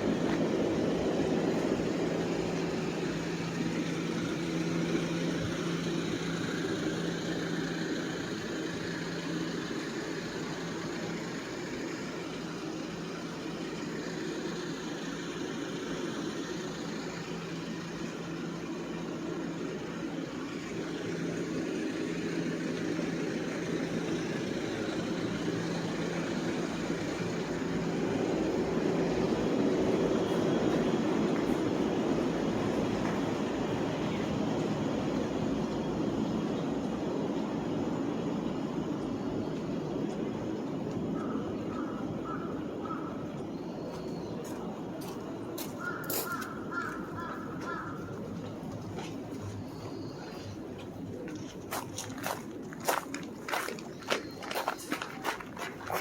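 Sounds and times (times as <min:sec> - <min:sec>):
city noise: 0:00.0 - 0:56.0
vehicle engine humming: 0:00.0 - 0:56.0.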